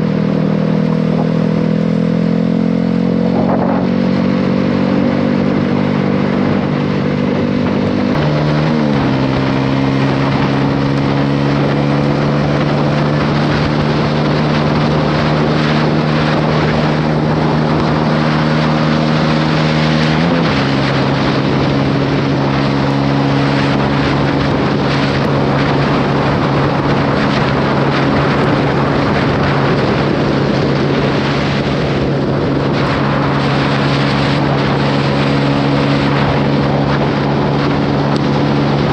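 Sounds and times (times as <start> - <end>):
motorcycle engine cruising: 0.0 - 38.9
wind and road rush: 0.0 - 38.9.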